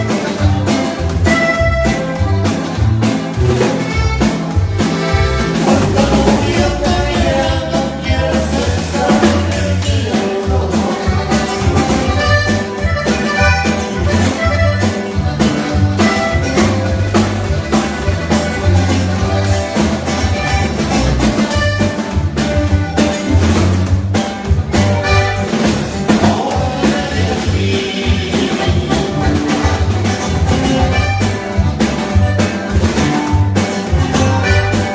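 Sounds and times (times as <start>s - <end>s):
band music with drums and bass: 0.0s - 34.9s.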